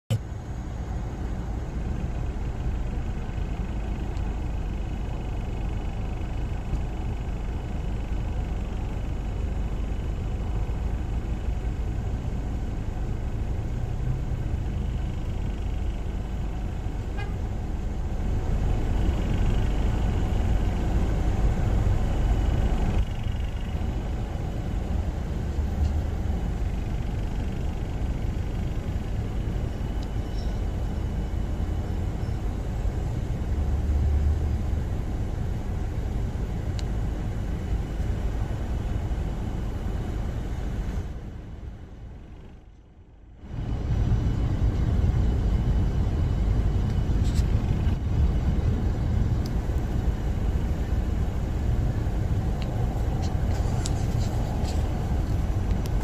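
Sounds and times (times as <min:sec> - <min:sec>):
road traffic rumble: 0:00.1 - 0:56.0.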